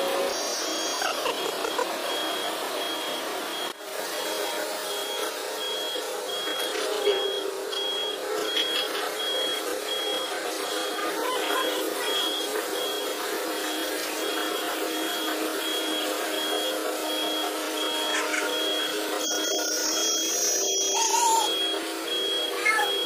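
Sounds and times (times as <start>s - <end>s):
machine running: 0.0s - 23.0s
warning alarm beeping: 0.2s - 23.0s.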